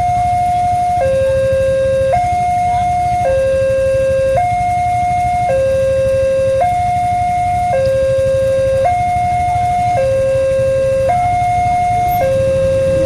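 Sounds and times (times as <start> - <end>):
level crossing hi-lo warning siren: 0.0 - 13.0.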